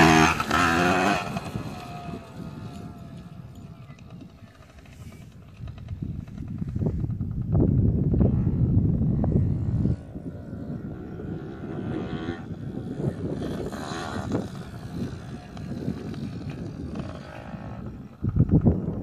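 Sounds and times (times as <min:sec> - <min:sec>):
dirt bike engine revving: 0:00.0 - 0:06.6, 0:08.2 - 0:18.9
wind rumble on microphone: 0:00.0 - 0:19.0.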